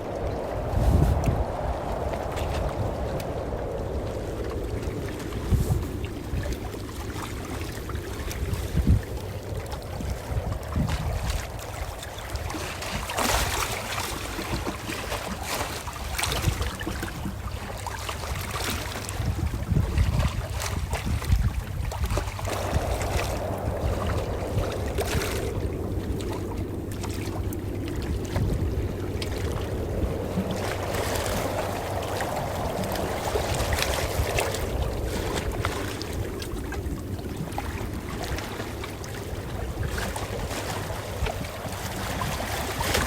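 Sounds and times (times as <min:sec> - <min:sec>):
ocean waves washing in: 0:00.0 - 0:43.0
water splashes: 0:00.0 - 0:43.0.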